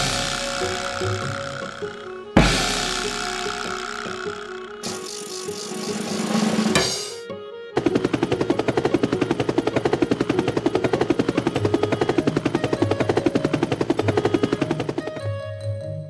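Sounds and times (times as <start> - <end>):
helicopter rotor chopping: 0.0 - 7.2, 7.8 - 15.3.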